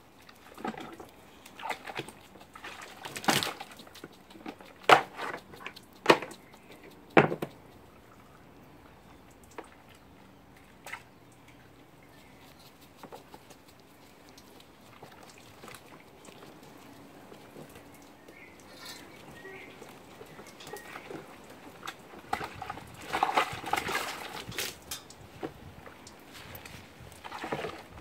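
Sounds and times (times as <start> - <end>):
monkey splashing in water: 0.2 - 8.1, 12.0 - 28.0.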